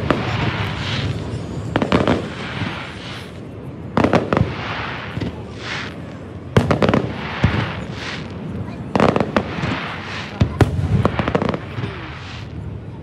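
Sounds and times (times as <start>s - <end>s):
fireworks bangs: 0.0s - 13.0s
fireworks hissing: 0.0s - 13.0s.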